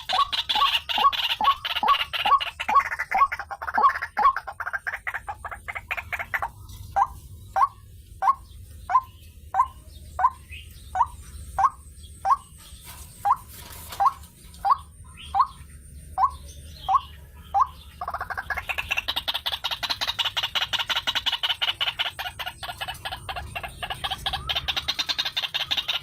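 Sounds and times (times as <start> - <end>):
waterhen calling: 0.0 - 12.6, 13.2 - 26.0.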